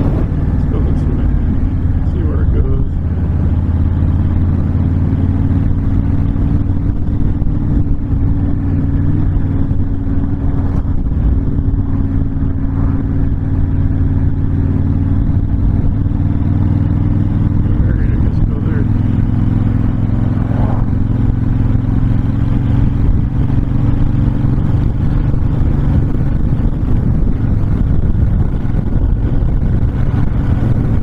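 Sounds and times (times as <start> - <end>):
motorcycle engine cruising: 0.0 - 31.0.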